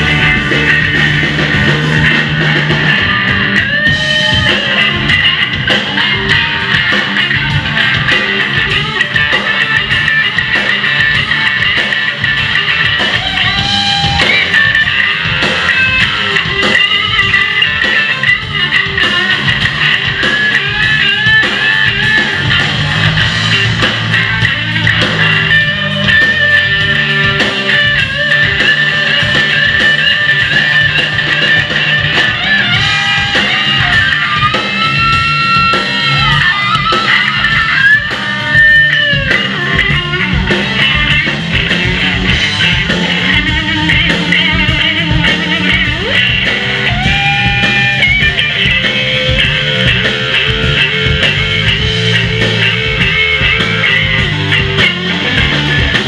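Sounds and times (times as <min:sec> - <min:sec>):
bass guitar: 0:00.0 - 0:56.0
drums: 0:00.0 - 0:56.0
lead electric guitar: 0:00.0 - 0:56.0.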